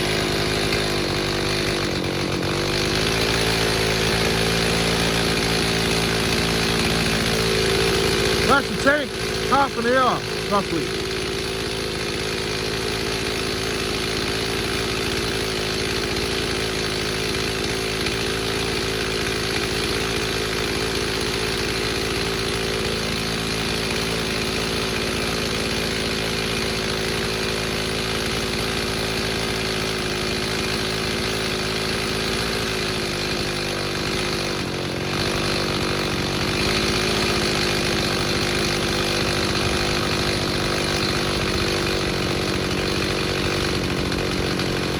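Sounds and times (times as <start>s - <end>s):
chainsaw cutting: 0.0s - 44.9s.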